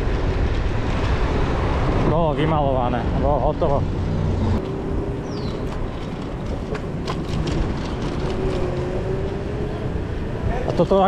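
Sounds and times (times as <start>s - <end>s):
road rumble: 0.0s - 11.0s
wind: 0.0s - 11.0s.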